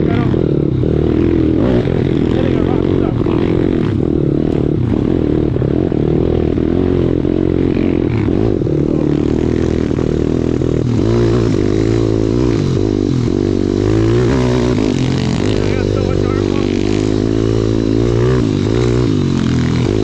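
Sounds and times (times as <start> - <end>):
small motorbike engine revving: 0.0 - 20.0.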